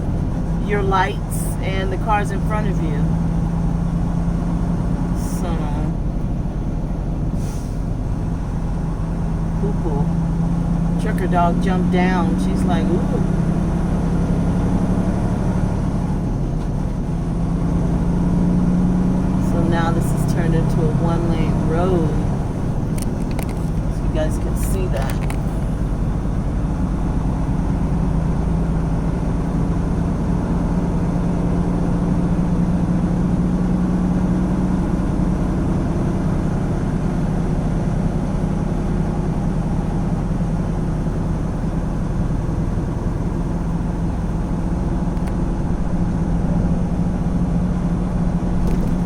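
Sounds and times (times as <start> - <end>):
truck diesel engine drone: 0.0 - 49.0.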